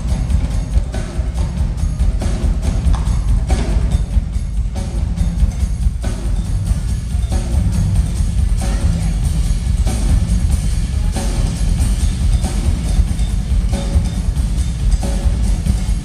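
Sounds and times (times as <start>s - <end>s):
drum kits playing: 0.0s - 16.0s.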